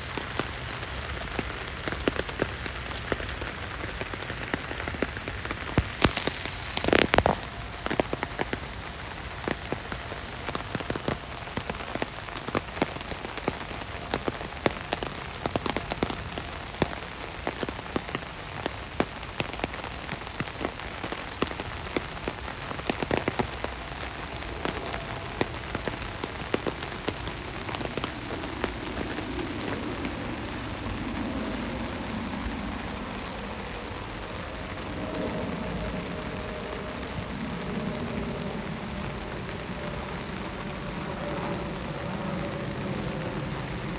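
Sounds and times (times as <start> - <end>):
rain pattering on a window: 0.0 - 43.9.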